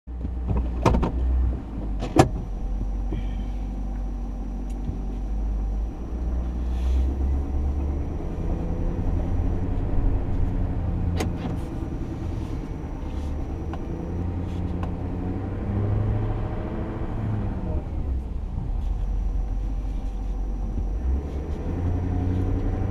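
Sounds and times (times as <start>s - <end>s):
truck engine and road rumble: 0.1s - 22.9s.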